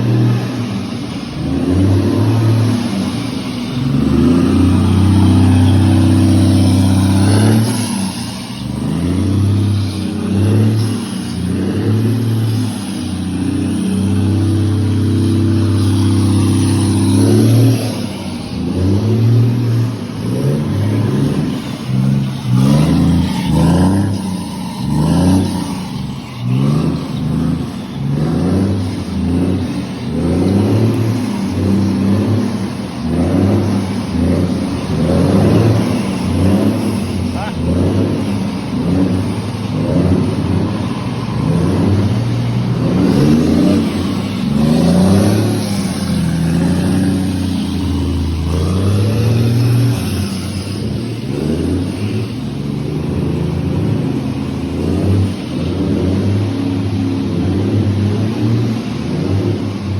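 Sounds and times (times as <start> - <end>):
truck diesel engine revving: 0.0 - 59.9.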